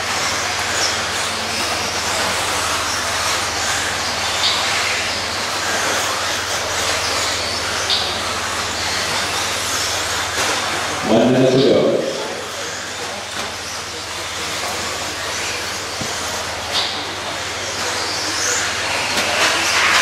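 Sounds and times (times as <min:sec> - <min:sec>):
rc cars motors and tyres whirring: 0:00.0 - 0:20.0.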